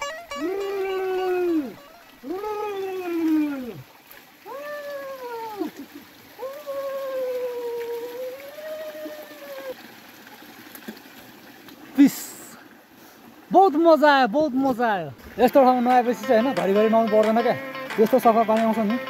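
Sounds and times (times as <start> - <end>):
water trickling from a spout: 0.0 - 16.4.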